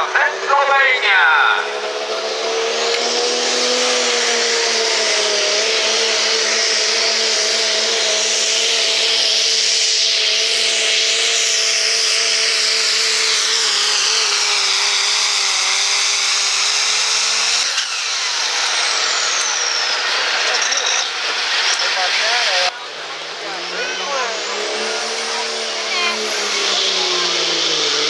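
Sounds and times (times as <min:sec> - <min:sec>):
diesel engine at full throttle: 0:00.0 - 0:28.0.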